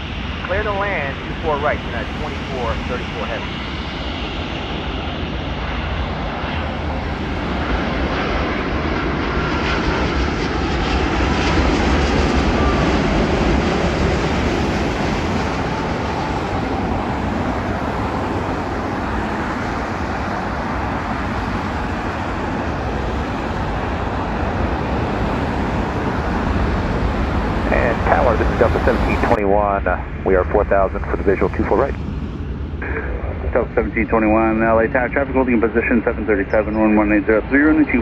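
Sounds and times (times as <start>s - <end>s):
jet airliner engine rumble and whine: 0.0s - 38.0s.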